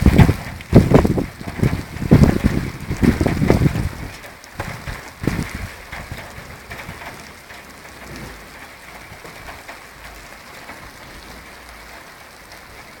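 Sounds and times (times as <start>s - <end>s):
steady rain falling: 0.0s - 13.0s
wind rumbling on microphone: 0.0s - 13.0s.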